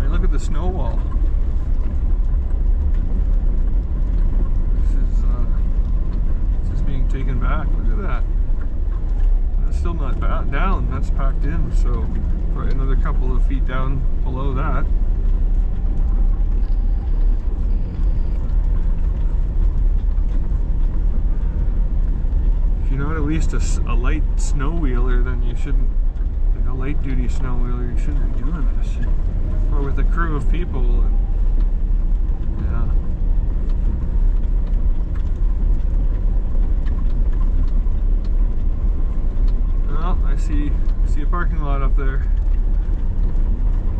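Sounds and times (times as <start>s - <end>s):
engine and drivetrain rumble: 0.0s - 43.9s
faint ticks and rattles: 0.0s - 43.9s.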